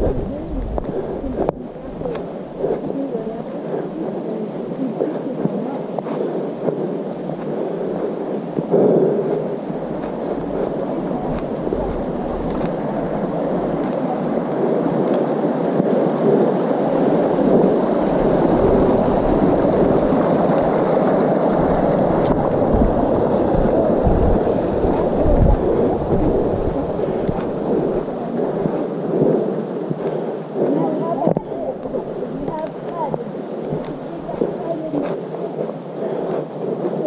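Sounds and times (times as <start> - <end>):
low thumps: 0.0 - 37.0
rushing noise on microphone: 0.0 - 37.0.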